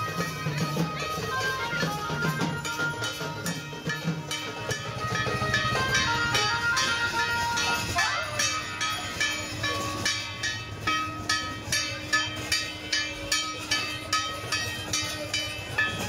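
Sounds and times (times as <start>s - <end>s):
metallic percussion strikes: 0.0s - 16.0s.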